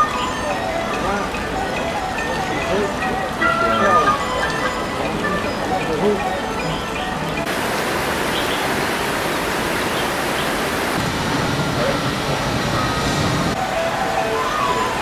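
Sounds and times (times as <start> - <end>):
fountain water rushing: 0.0 - 15.0.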